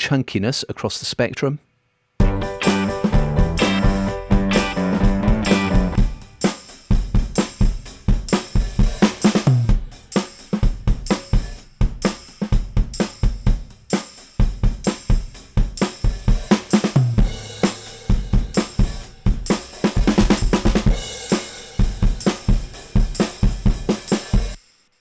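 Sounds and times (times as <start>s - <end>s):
distorted drum kit groove: 2.2s - 24.7s.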